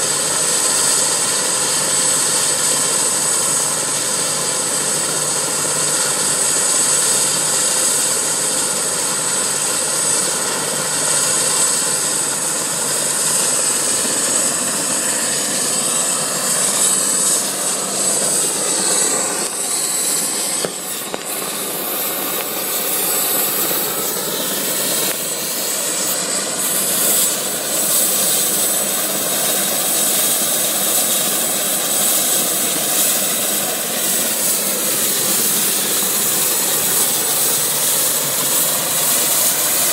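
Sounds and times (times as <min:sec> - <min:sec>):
helicopter engine and rotor: 0:00.0 - 0:39.9
helicopter turbine whine: 0:00.0 - 0:39.9.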